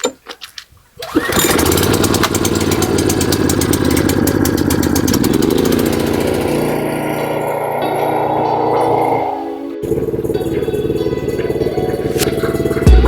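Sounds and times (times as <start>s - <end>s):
small petrol engine running: 1.0s - 13.0s.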